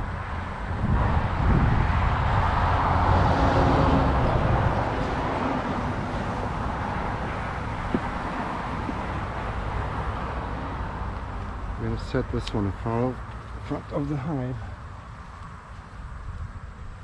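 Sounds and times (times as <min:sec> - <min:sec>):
car passing on road: 0:00.0 - 0:17.0.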